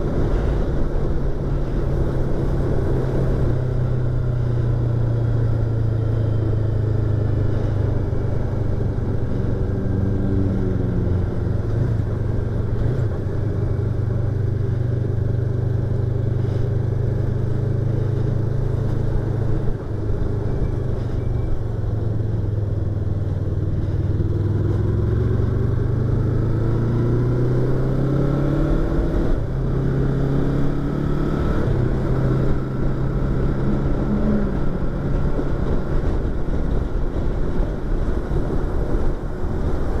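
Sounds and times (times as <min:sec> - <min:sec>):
motorcycle engine while riding: 0:00.0 - 0:40.0.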